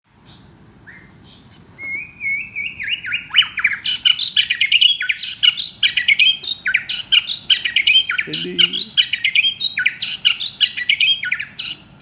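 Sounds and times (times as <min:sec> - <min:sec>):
songbird whistling and trilling: 0:00.3 - 0:11.8.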